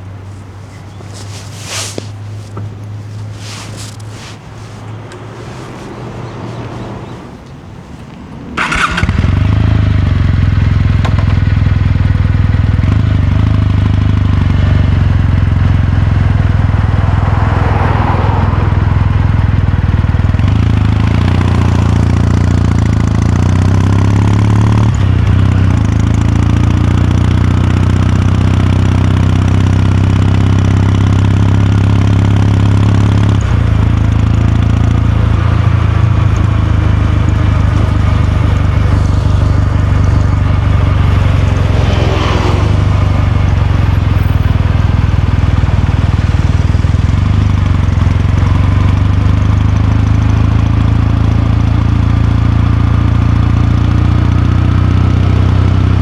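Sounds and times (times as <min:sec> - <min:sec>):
motorcycle engine starting and idling: 0:00.0 - 0:56.0.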